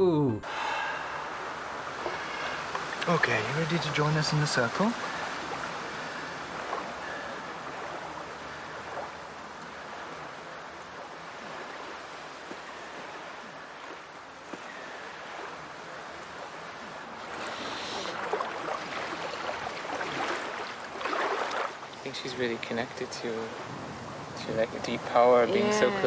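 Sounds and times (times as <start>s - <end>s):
water at a shore: 0.0s - 26.0s
wind: 0.0s - 26.0s.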